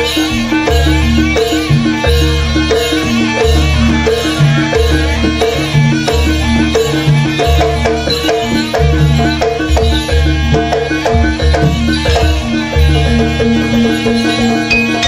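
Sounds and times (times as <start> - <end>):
drums and tuned percussion: 0.0 - 15.0.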